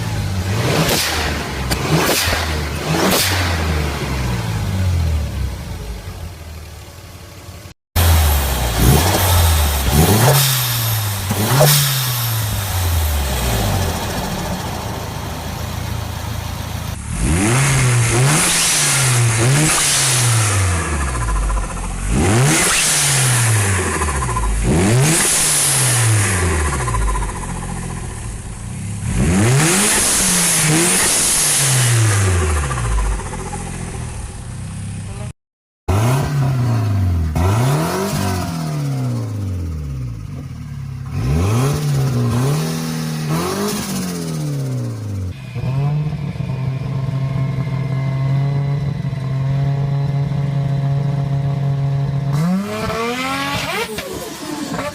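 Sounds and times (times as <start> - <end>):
turbocharged car engine revving: 0.0 - 54.9.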